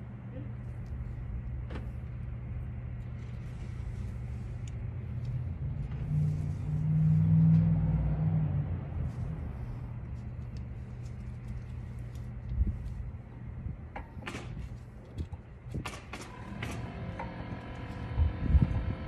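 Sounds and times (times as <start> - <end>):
low engine-like rumble: 0.0 - 19.0.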